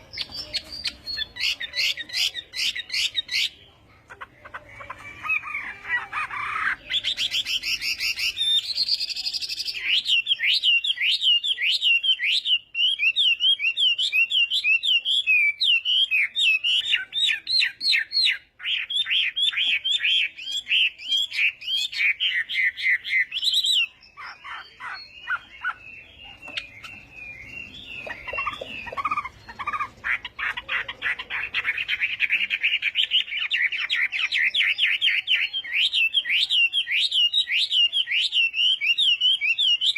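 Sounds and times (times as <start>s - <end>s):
bird singing whistled trills: 6.4s - 39.9s.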